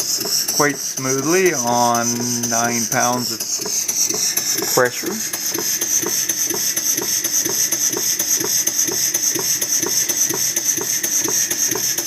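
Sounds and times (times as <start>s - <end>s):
steam engine clicking: 0.0s - 12.0s
steam hissing: 0.0s - 12.0s.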